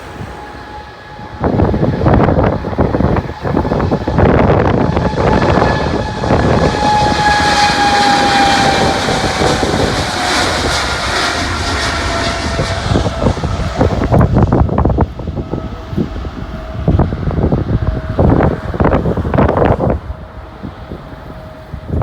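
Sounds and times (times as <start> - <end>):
jet airliner taking off: 0.0 - 22.0
wind buffeting microphone: 0.0 - 22.0.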